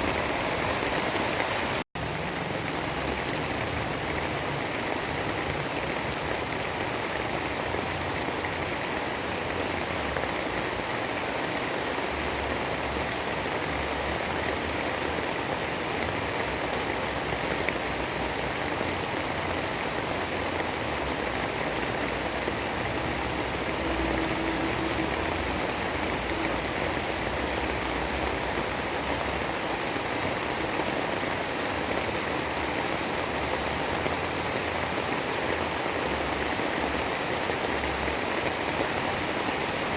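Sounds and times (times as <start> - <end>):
rain hissing: 6.2 - 39.9.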